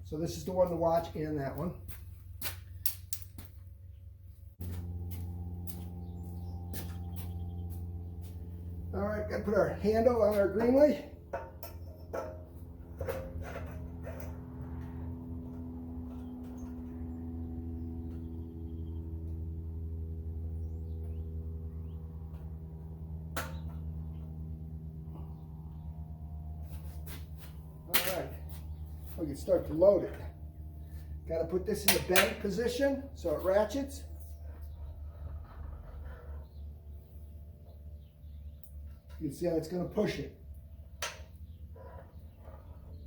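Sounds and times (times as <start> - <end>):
low machine hum with buzz: 0.0 - 43.0.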